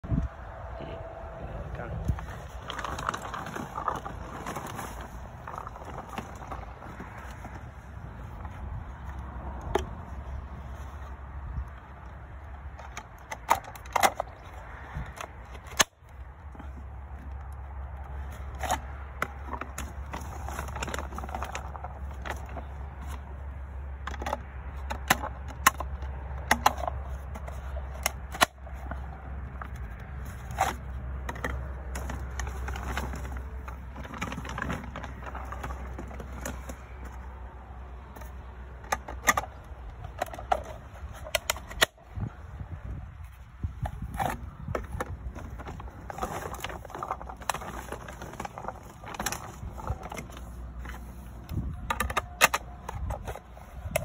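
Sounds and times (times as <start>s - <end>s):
baits rattling and scraping: 1.9s - 54.0s.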